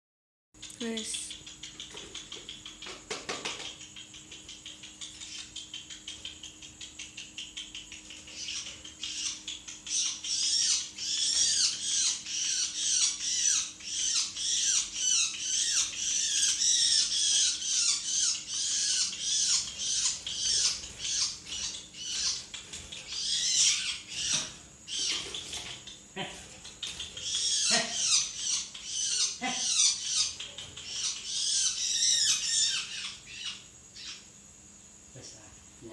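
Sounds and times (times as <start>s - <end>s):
small bird chirping and squawking: 0.6s - 34.3s.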